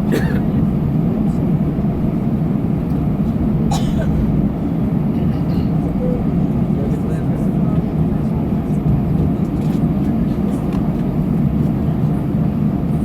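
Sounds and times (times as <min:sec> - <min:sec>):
aircraft engine rumble in cabin: 0:00.0 - 0:13.0.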